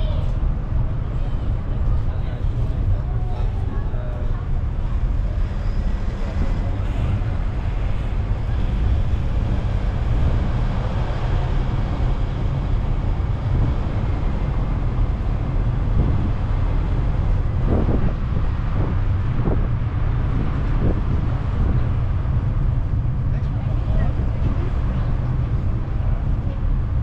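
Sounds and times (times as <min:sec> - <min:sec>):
road train rumbling: 0:00.0 - 0:27.0
wind buffeting microphone: 0:00.0 - 0:27.0.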